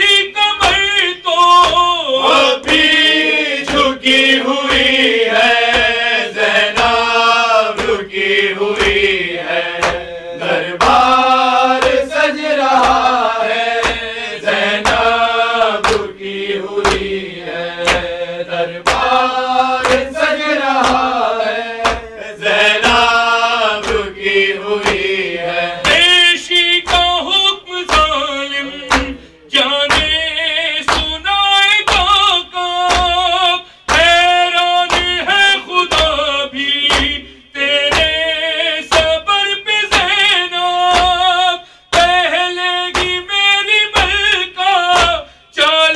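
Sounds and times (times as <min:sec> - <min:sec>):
hand beats: 0:00.0 - 0:45.8
man chanting into microphone: 0:00.0 - 0:45.9.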